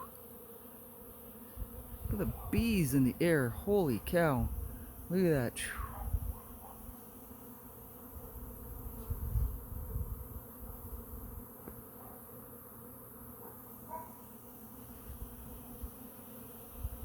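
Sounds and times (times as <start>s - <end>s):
bees buzzing: 0.0s - 5.8s, 6.8s - 17.0s.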